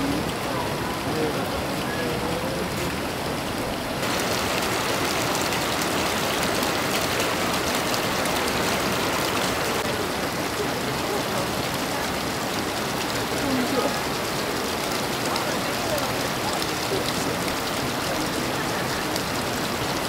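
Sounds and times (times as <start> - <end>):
flowing water rushing: 0.0 - 20.0.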